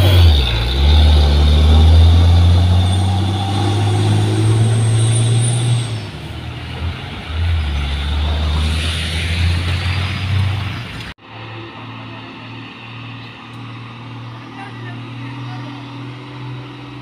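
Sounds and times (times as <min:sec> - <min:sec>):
second truck engine droning: 0:00.0 - 0:17.0
truck diesel engine labouring uphill: 0:00.0 - 0:17.0.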